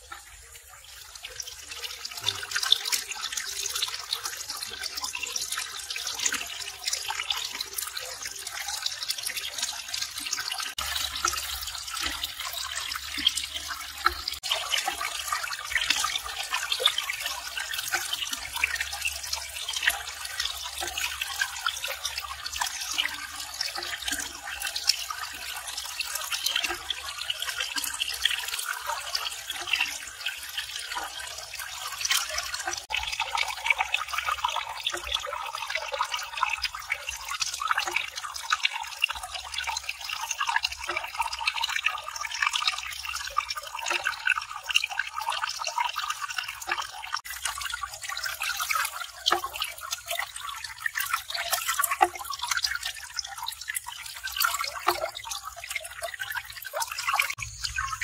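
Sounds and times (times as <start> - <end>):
water splashing into pond: 0.0 - 58.0.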